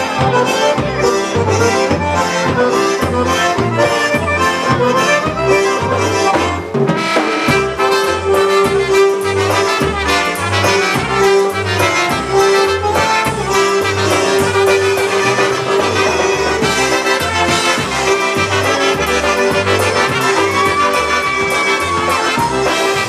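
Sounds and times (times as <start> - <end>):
polka band playing: 0.0 - 23.0.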